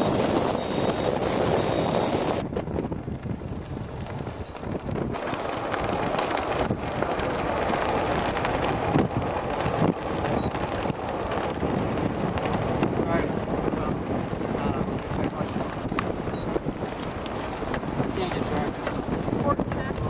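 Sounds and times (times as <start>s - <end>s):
wind buffeting the microphone: 0.0s - 20.0s.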